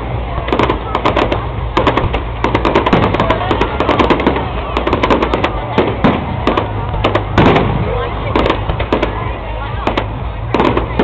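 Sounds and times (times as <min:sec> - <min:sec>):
fireworks crackling and popping: 0:00.0 - 0:11.0
fireworks bangs: 0:00.3 - 0:11.0.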